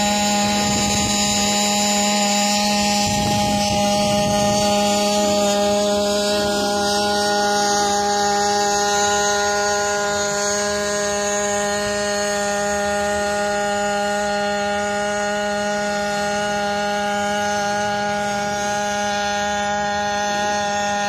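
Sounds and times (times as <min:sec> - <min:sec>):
drone engine and propellers humming: 0:00.0 - 0:21.0.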